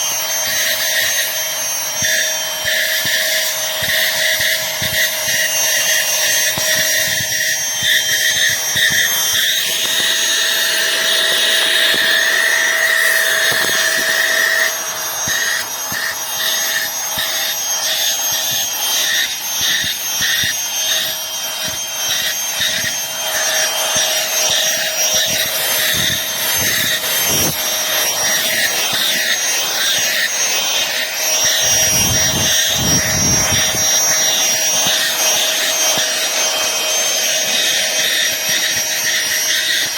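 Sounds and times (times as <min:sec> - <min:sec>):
handheld vacuum motor whine: 0:00.0 - 0:39.9.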